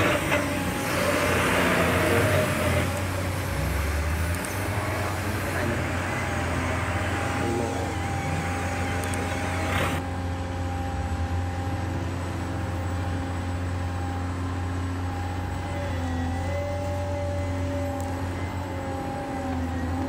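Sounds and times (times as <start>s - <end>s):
engine-like rumble: 0.0s - 20.0s
high wavering whine: 0.0s - 20.0s.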